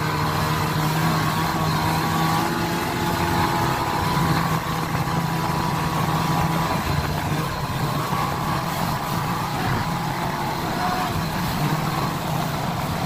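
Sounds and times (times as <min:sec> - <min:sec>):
constant rushing noise: 0:00.0 - 0:13.0
snowmobile engine running: 0:00.0 - 0:13.0.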